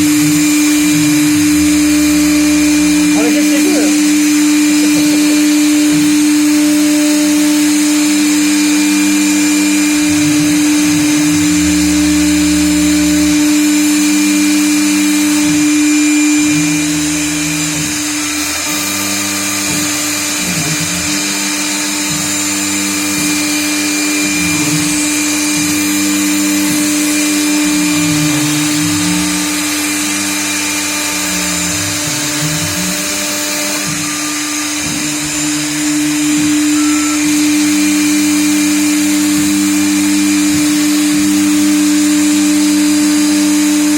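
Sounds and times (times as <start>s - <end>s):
cnc router hum: 0.0s - 43.9s.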